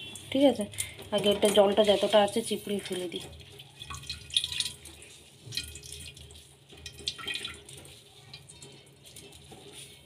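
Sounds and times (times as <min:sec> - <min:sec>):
liquid splashing into steel pot: 0:00.0 - 0:09.8.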